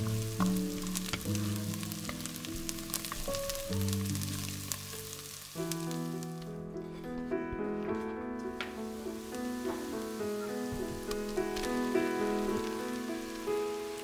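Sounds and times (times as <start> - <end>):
onions sizzling in butter: 0.0 - 7.3, 7.9 - 14.0.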